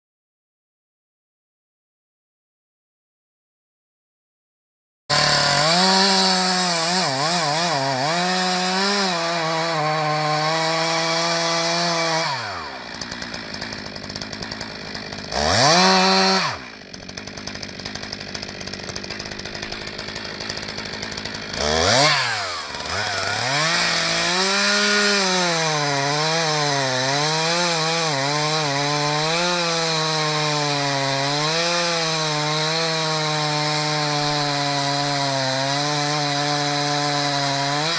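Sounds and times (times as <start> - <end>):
chainsaw cutting wood: 5.1 - 37.9.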